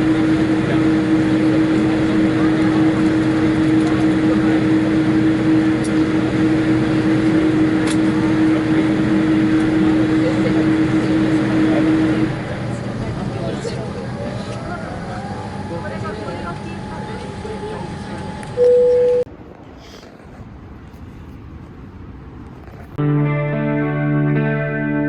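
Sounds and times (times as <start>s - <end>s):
aircraft cabin engine rush: 0.0s - 23.0s
constant low hum: 0.0s - 23.0s.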